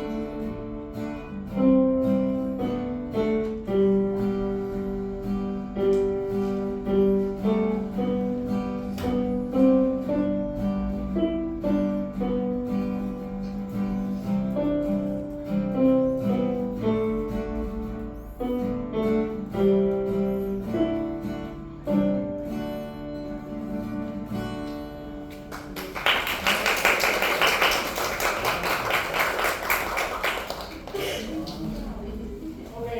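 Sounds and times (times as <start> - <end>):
acoustic guitar piece: 0.0 - 32.9.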